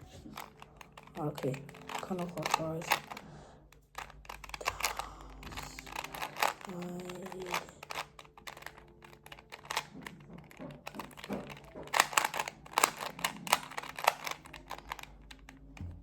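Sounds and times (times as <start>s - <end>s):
plastic puzzle cube clicking: 0.0s - 16.0s.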